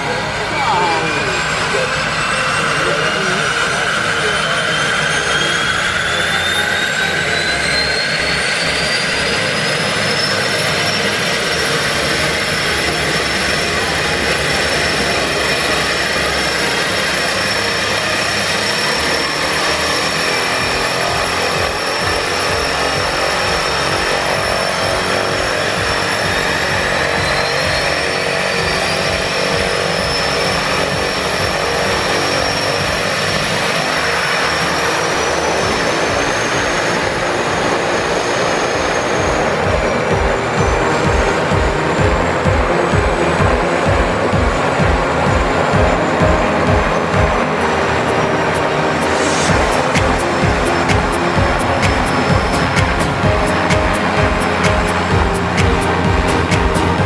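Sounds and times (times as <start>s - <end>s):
propeller roar: 0.0s - 57.0s
turbine engine whine: 0.0s - 57.0s.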